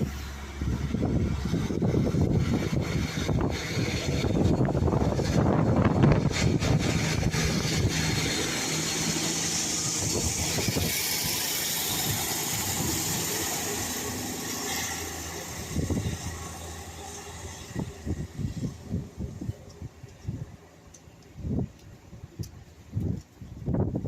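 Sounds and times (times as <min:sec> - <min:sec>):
diesel train engines running: 0:00.0 - 0:23.6
wind buffeting microphone: 0:00.0 - 0:24.0.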